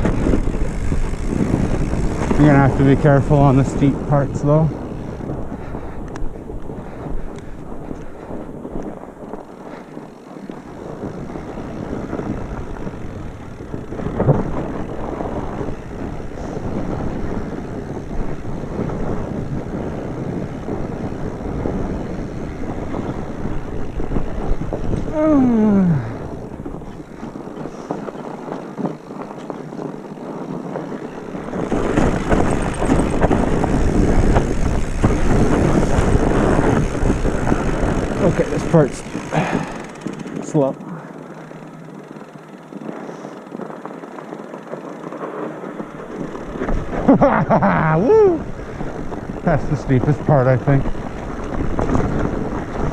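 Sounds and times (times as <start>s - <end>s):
bike rattling over bumps: 0.0s - 52.9s
wind on microphone: 0.0s - 52.9s.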